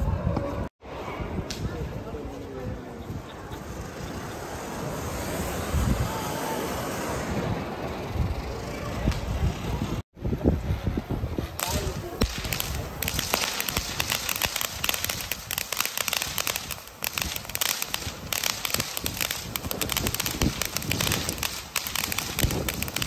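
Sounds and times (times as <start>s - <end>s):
fireworks crackling and hissing: 0.9s - 23.0s.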